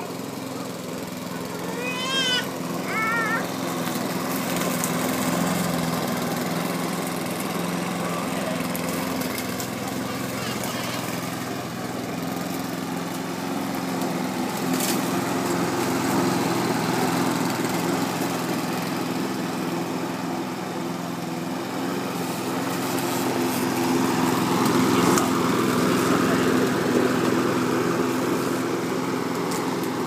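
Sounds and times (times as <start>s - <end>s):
petrol lawn mower running: 0.0s - 30.0s.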